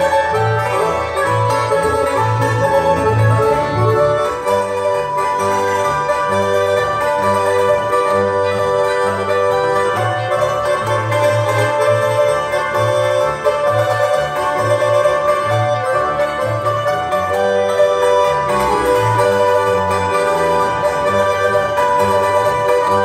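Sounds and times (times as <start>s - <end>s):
accordion chords: 0.0s - 23.0s
hammered dulcimer notes: 0.0s - 23.0s
pulsing bass line: 0.0s - 23.0s
violin: 0.0s - 23.0s.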